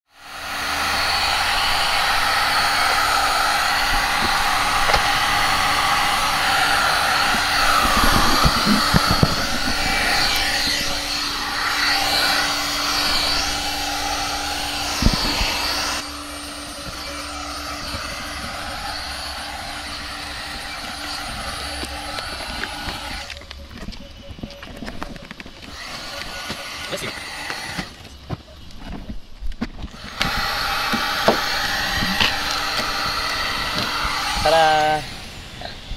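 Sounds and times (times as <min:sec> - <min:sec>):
heat gun blowing: 0:00.1 - 0:23.4, 0:25.6 - 0:28.1, 0:29.9 - 0:35.9.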